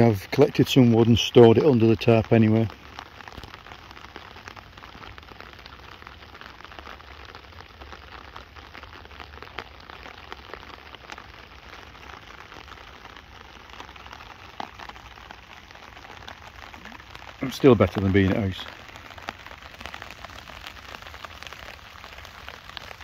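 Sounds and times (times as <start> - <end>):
rain on a tarp: 0.0 - 23.0.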